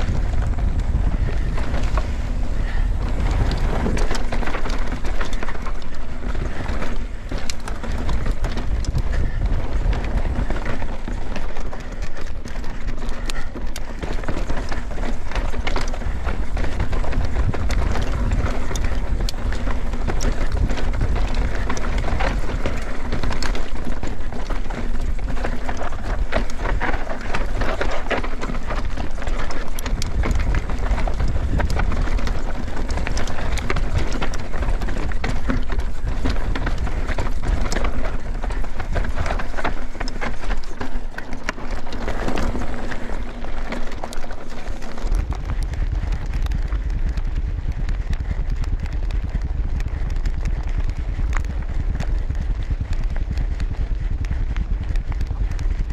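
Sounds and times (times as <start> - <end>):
stones and bike parts clattering: 0.0 - 46.4
bike tyres rumbling on gravel: 0.0 - 55.9.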